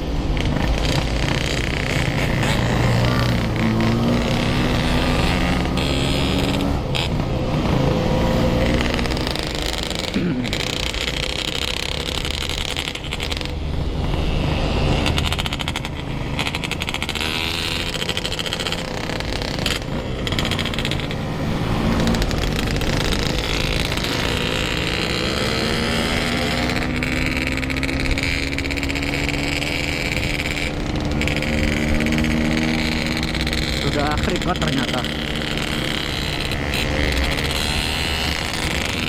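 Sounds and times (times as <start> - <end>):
two-stroke motorcycle engine: 0.0 - 39.0.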